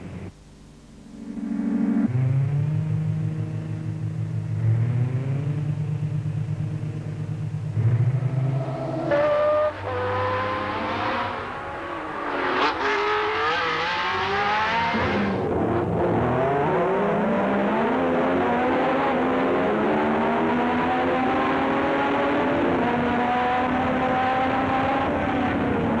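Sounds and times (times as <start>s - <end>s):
racing car engine at high revs: 1.2s - 26.0s.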